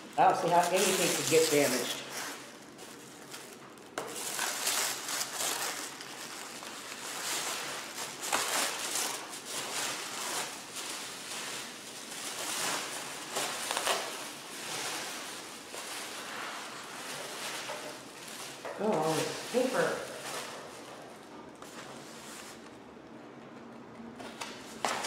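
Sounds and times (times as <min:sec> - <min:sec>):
paper packaging tearing and crinkling: 0:00.0 - 0:22.7.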